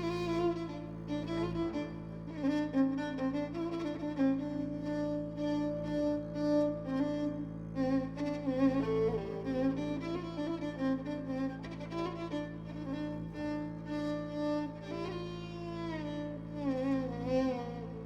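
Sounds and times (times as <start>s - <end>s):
low sustained accompaniment: 0.0s - 18.0s
violin melody with vibrato: 0.0s - 18.0s.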